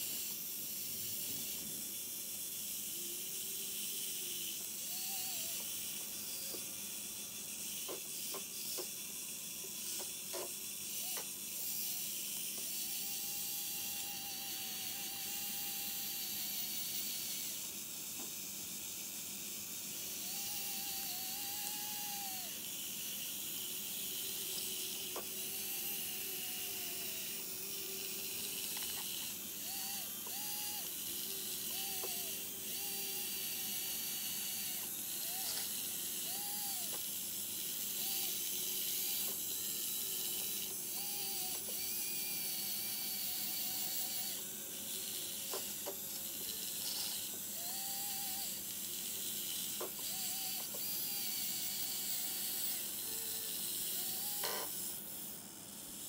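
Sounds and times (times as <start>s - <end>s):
small electric motors whining: 0.0s - 56.0s.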